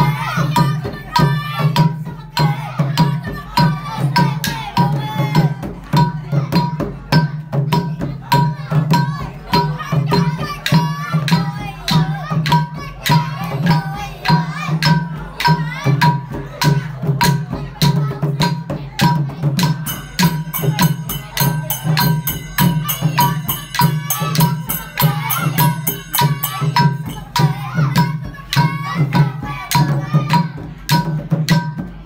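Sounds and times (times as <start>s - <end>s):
drums and clashing percussion: 0.0s - 32.0s.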